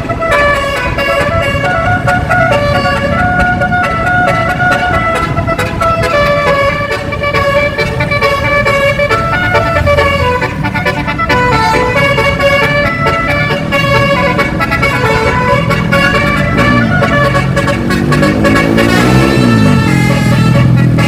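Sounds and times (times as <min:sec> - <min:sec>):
musical bus horn melody: 0:00.0 - 0:21.0.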